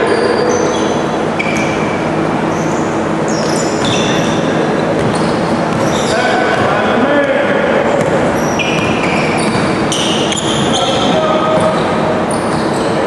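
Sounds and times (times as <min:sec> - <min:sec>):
din of gym hall: 0:00.0 - 0:13.0
sneakers squeaking on wooden floor: 0:00.0 - 0:13.0.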